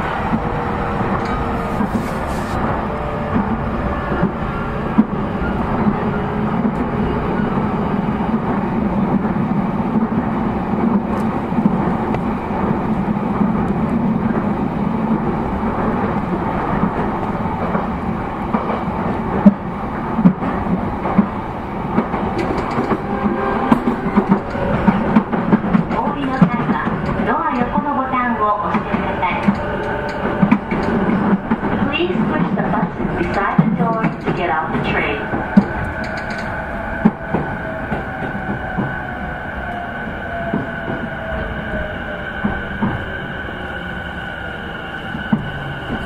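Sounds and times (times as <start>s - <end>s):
train wheels on rail drone: 0.0s - 46.0s.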